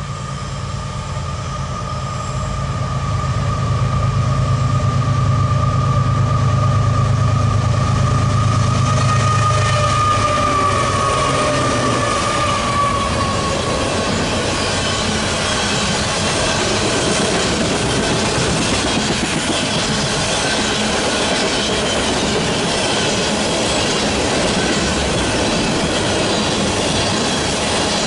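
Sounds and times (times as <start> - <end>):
freight train wheels rumbling: 0.0 - 28.0
high wheel squeal: 0.0 - 28.0.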